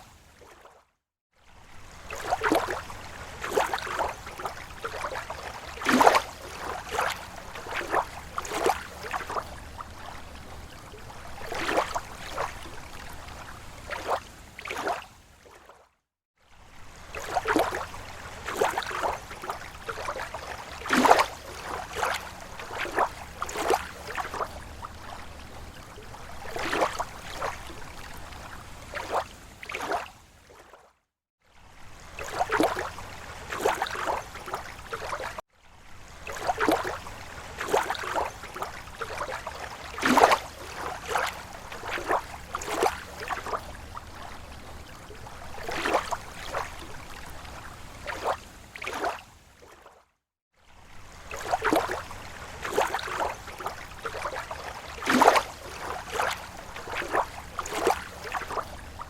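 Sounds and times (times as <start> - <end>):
waves lapping at shore: 0.0 - 59.0.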